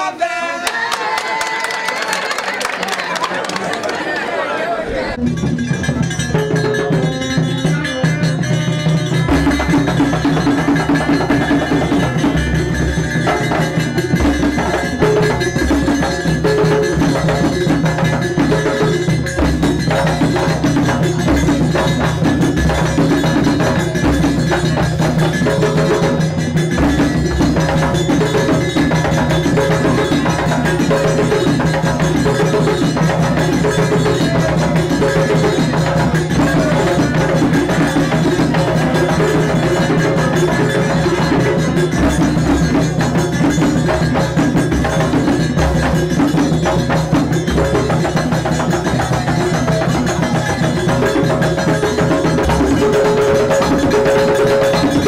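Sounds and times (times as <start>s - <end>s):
drums and percussion rhythm: 5.2s - 55.0s.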